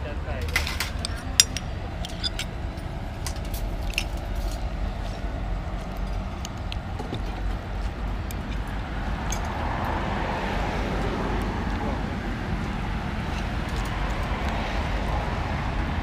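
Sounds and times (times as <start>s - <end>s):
road traffic: 0.0s - 16.0s
vehicle passing: 0.0s - 16.0s.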